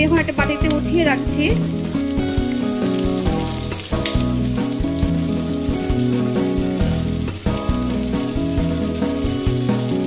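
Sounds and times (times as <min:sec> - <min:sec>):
background music with held notes: 0:00.0 - 0:10.0
prawns sizzling in oil: 0:00.0 - 0:10.0.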